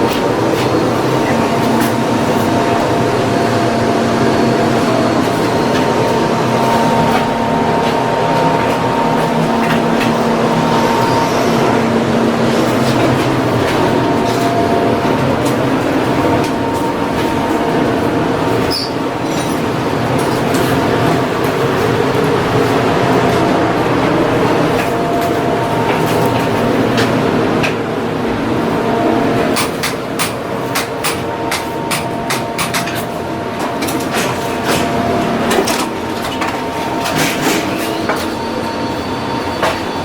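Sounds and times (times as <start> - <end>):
industrial machinery droning: 0.0 - 40.0.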